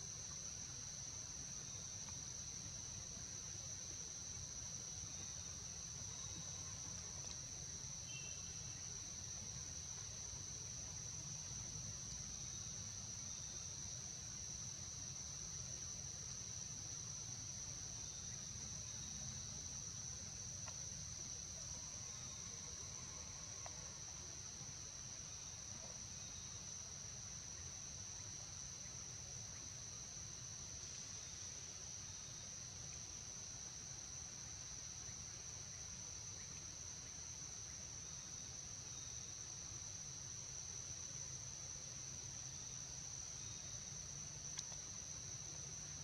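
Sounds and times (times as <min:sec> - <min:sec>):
high-pitched insect chorus: 0:00.0 - 0:46.0.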